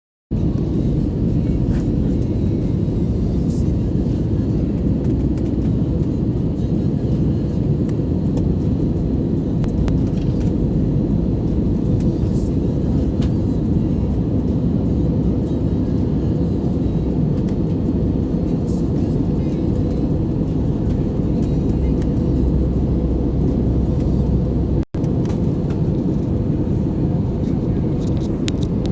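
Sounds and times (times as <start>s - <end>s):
airplane rumble: 0.3s - 28.9s.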